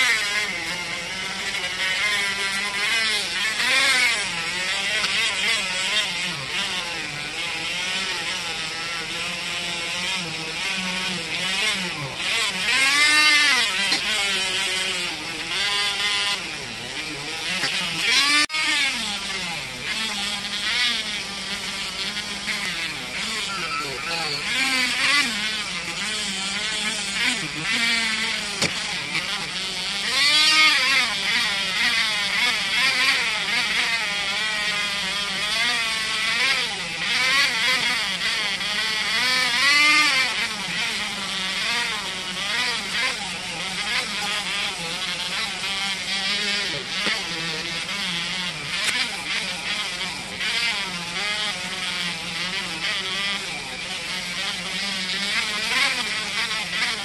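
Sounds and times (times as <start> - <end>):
abrasive wheel grinding steel: 0.0 - 57.0
rotary tool motor whine: 0.0 - 57.0.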